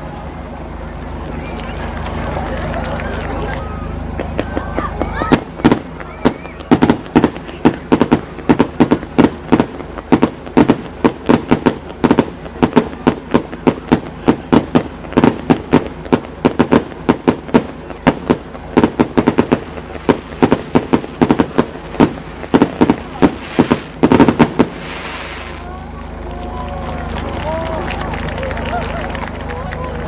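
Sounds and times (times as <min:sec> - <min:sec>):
fireworks bangs: 0:00.4 - 0:30.0.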